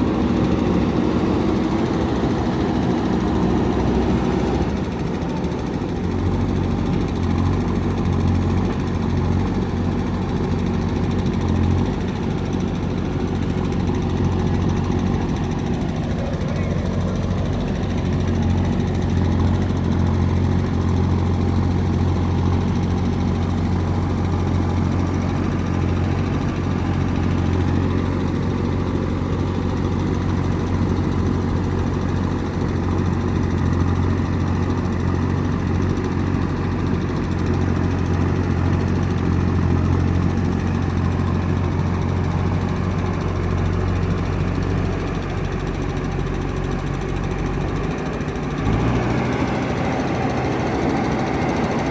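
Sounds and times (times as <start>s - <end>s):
diesel engine humming: 0.0s - 51.9s.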